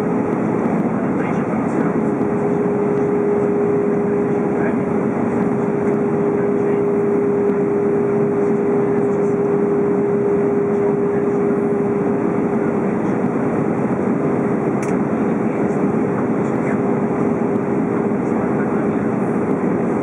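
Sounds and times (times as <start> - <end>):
aircraft cabin engine and airflow noise: 0.0 - 20.0
mid-pitched hum: 0.0 - 20.0.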